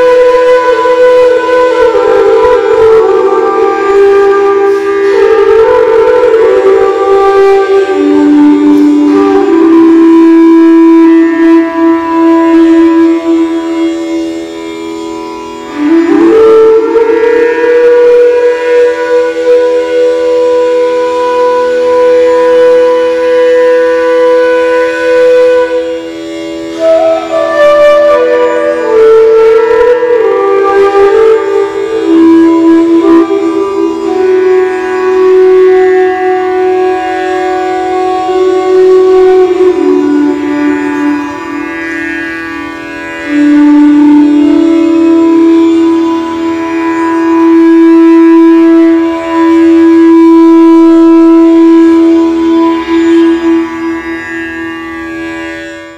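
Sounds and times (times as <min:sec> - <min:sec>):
bamboo flute long notes: 0:00.0 - 0:55.9.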